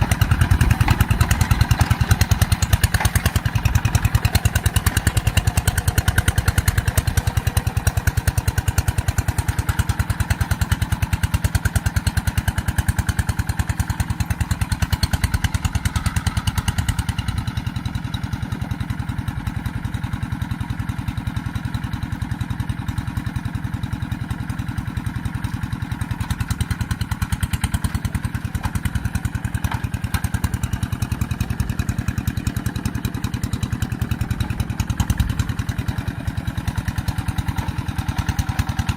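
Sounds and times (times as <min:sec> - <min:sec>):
tractor engine chugging: 0:00.0 - 0:38.9.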